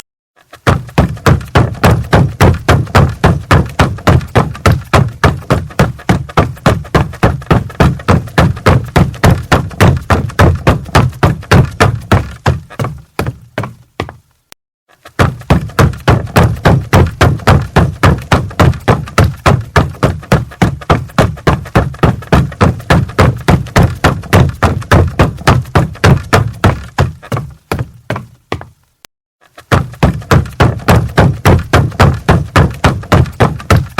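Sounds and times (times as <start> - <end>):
footsteps running on wooden floor: 0.5 - 14.3, 15.0 - 28.8, 29.6 - 33.9.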